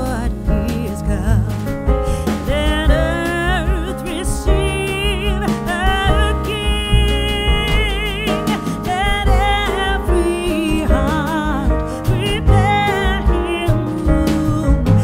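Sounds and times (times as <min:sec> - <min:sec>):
instrumental accompaniment with bass: 0:00.0 - 0:15.0
person singing with vibrato: 0:00.0 - 0:15.0.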